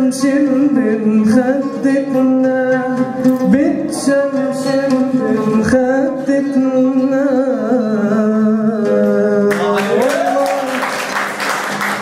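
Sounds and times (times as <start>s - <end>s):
plucked oud: 0.0s - 10.1s.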